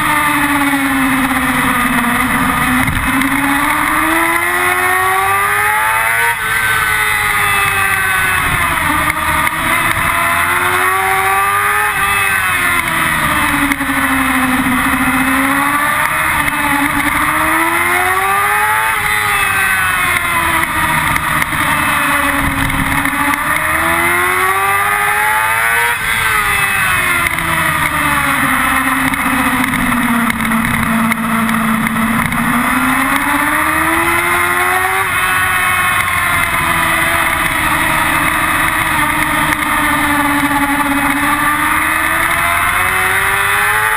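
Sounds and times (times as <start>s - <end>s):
motorcycle engine revving: 0.0s - 43.9s
wind and road noise: 0.0s - 43.9s.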